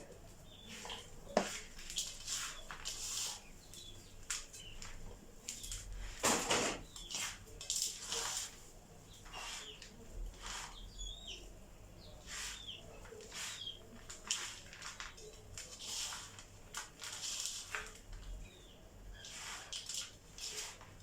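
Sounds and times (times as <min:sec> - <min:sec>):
sticky rustling of oats mixed by hand: 0:00.0 - 0:21.0.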